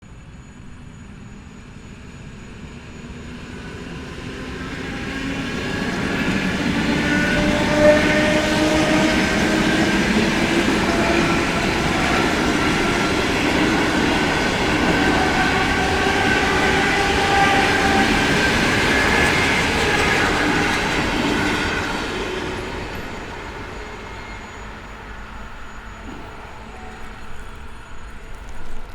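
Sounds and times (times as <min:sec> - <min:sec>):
electric train passing: 0:00.1 - 0:28.9.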